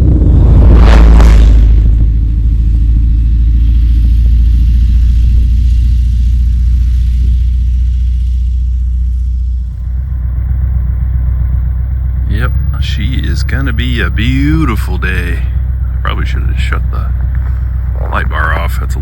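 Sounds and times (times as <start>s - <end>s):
engine and tyres rumbling: 0.0s - 19.0s.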